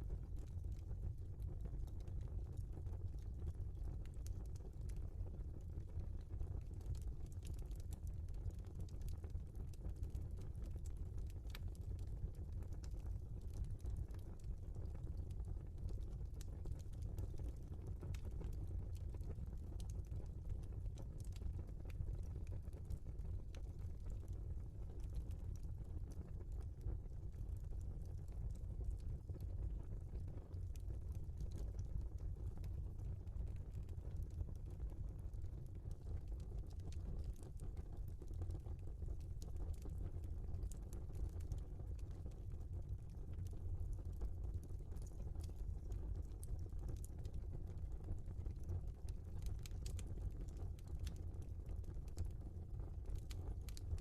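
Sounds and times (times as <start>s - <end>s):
low rumble of fire: 0.0s - 54.0s
fire crackling and popping: 6.6s - 54.0s.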